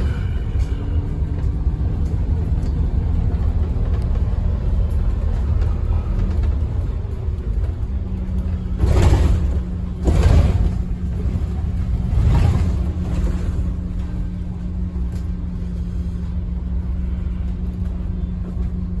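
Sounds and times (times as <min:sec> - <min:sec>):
bus diesel engine humming: 0:00.0 - 0:19.0.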